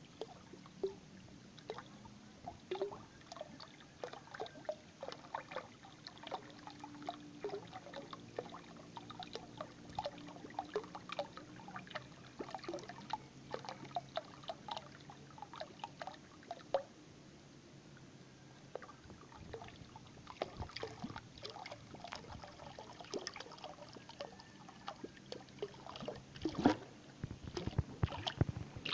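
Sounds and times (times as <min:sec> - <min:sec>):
small splashes and bubble plops: 0:00.0 - 0:16.9, 0:18.7 - 0:28.9
water pouring into pool: 0:01.6 - 0:16.9, 0:18.7 - 0:28.9.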